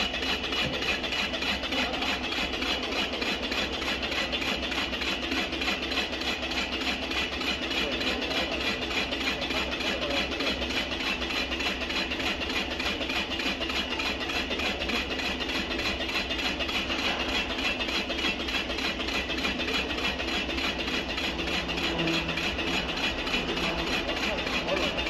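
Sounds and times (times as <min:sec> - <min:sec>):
lathe cutter hissing against wood: 0:00.0 - 0:25.0
low motor hum: 0:00.0 - 0:25.0.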